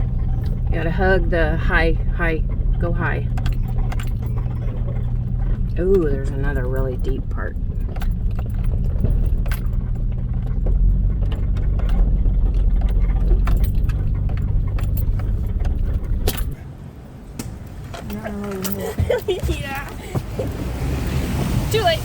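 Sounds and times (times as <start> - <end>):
rattles and knocks: 0.0 - 16.6, 17.4 - 20.8
off-road vehicle engine: 0.0 - 22.0.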